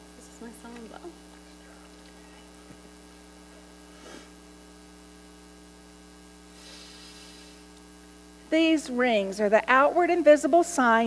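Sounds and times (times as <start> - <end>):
electrical mains hum: 0.0 - 11.0
faint background hiss: 0.0 - 11.0.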